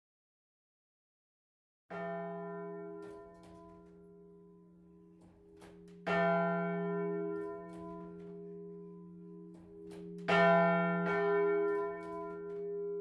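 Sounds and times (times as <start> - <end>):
church bell ringing: 1.9 - 13.0.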